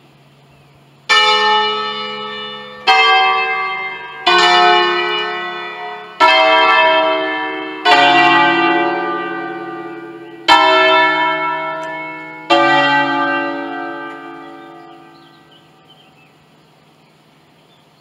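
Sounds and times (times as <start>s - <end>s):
church bell strokes: 1.1s - 15.9s.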